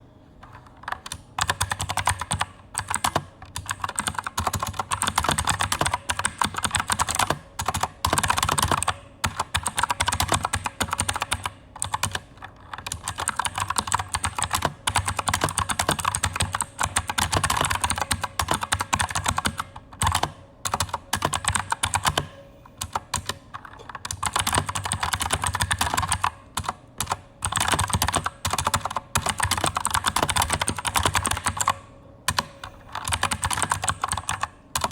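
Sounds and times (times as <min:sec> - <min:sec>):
typing on mechanical keyboard: 0:00.4 - 0:34.9.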